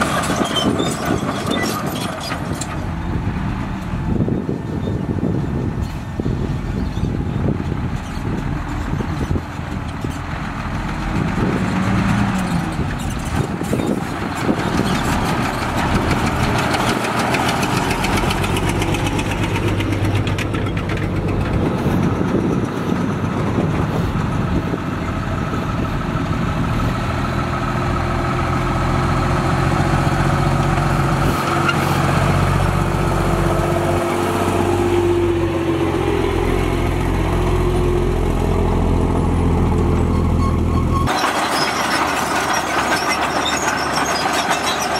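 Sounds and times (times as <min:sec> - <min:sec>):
heavy diesel engines: 0:00.0 - 0:44.9
truck passing: 0:00.0 - 0:44.9.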